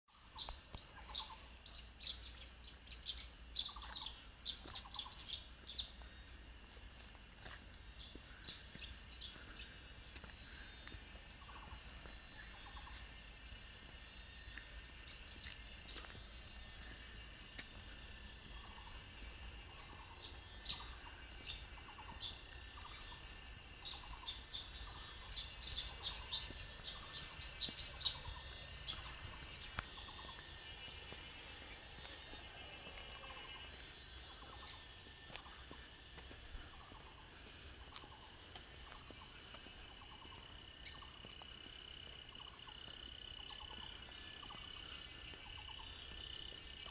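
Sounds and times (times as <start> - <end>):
high insect hum: 0.1 - 46.9
birds chirping: 0.2 - 46.9.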